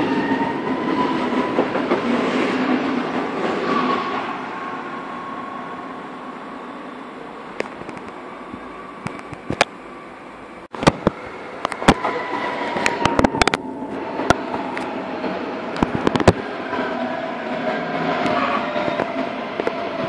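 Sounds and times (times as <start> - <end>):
electric train pulling away: 0.0 - 20.0
faint whine of approaching train: 0.0 - 20.0.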